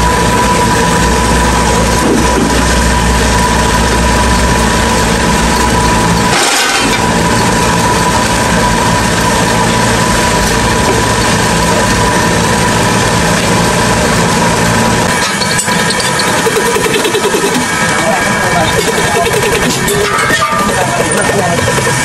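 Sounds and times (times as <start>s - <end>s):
metal lathe humming and whining: 0.0s - 22.0s.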